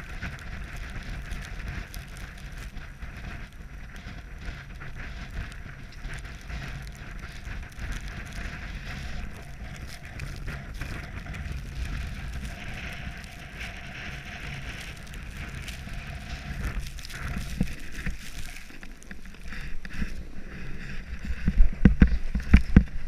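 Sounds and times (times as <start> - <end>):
crackles and crunches: 0.0 - 23.0
wind buffeting microphone: 0.0 - 23.0.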